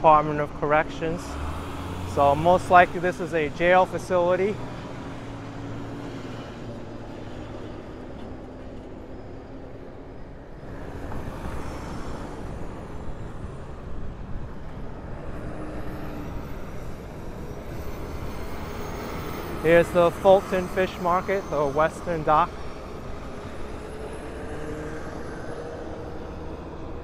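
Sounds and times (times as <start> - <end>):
vehicle engines rumbling: 0.0 - 27.0
vehicle passing: 0.6 - 8.6, 10.8 - 27.0.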